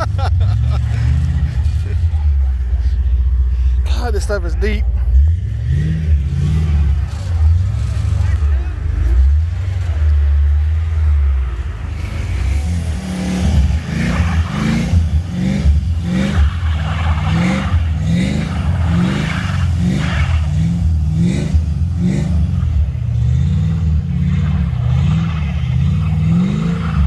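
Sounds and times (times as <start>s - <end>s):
vehicle engine revving: 0.0s - 27.0s.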